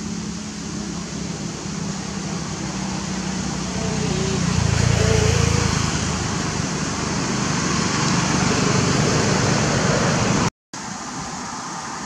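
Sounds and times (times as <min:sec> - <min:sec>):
rushing outdoor background noise: 0:00.0 - 0:12.0.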